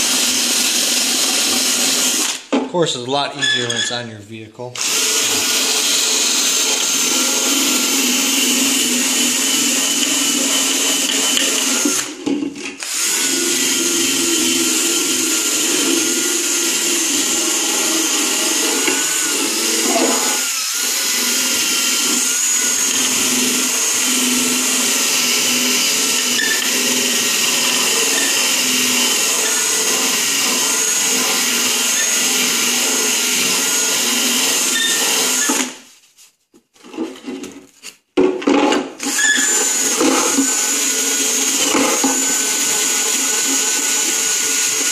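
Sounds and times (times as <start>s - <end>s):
power tool buffing plastic: 4.8s - 35.8s, 39.0s - 44.9s.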